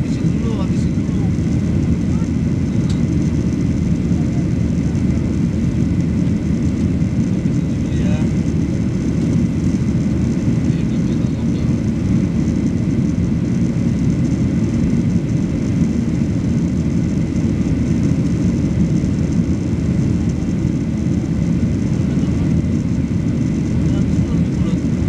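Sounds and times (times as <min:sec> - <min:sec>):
airplane cabin engine rumble: 0:00.0 - 0:25.0.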